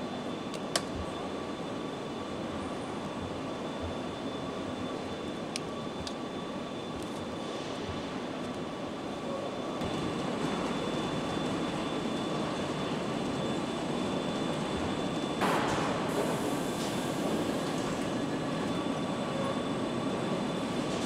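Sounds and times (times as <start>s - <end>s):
machinery hum and hiss: 0.0s - 21.0s.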